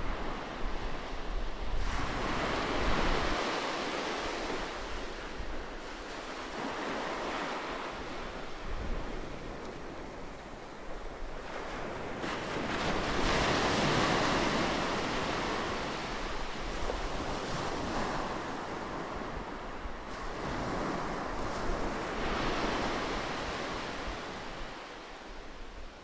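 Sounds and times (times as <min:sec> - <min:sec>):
wind on microphone: 0:00.0 - 0:26.0.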